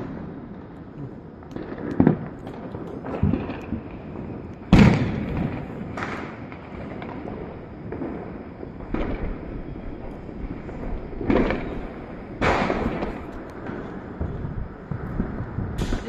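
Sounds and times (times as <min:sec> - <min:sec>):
firecrackers banging with echo: 0:00.0 - 0:16.0.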